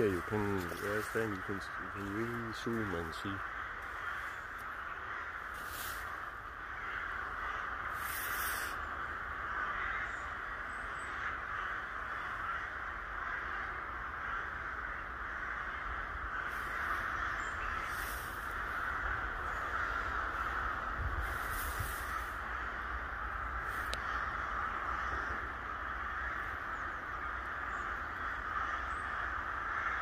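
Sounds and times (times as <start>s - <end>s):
crows cawing: 0.0s - 30.0s.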